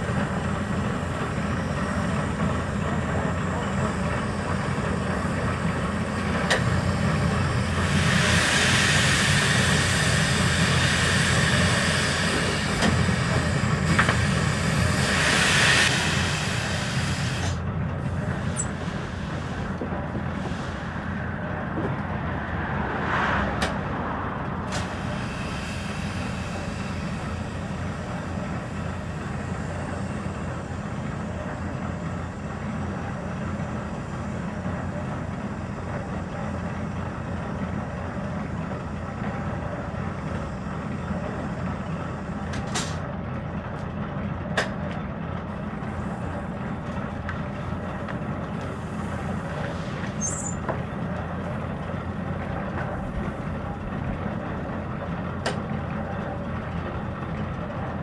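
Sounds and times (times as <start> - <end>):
machinery rumbling: 0.0 - 58.0.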